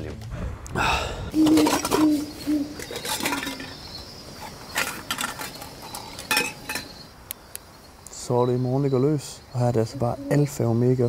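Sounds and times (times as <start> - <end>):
crickets chirring: 0.5 - 11.0.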